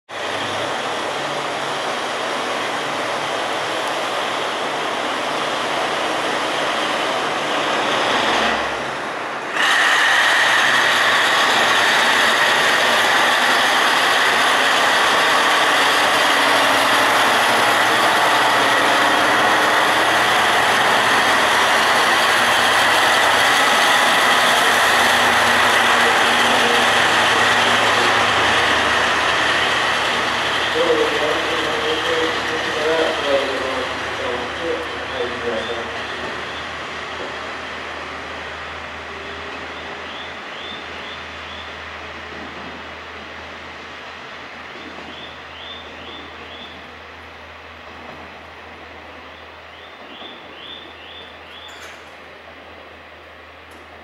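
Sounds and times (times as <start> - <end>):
diesel railcar rumbling past: 0.1 - 54.0.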